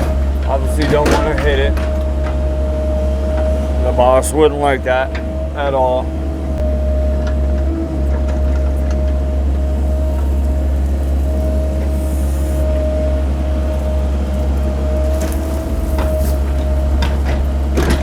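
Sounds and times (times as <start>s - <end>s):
diesel engine running with whine: 0.0s - 18.0s.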